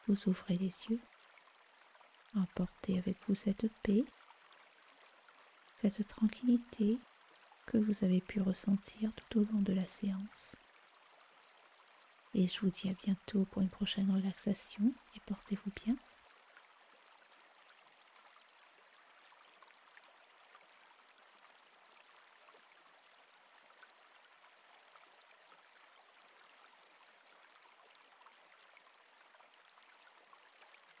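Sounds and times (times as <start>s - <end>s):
faint stream flowing: 0.0s - 31.0s.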